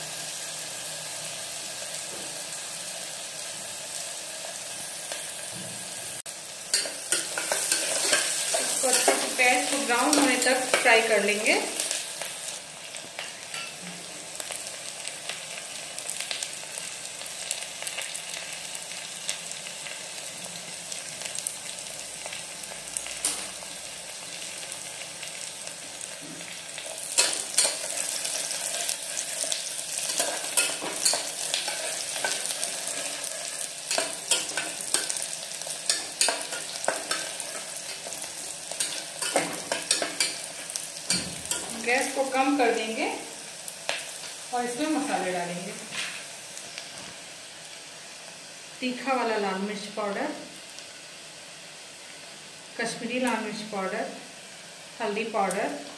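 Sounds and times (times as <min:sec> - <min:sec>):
onions sizzling in oil: 0:00.0 - 0:55.9.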